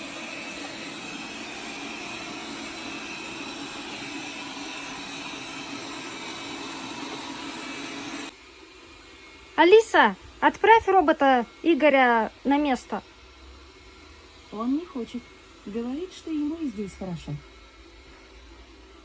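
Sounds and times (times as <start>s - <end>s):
robot vacuum cleaner running: 0.0s - 19.0s.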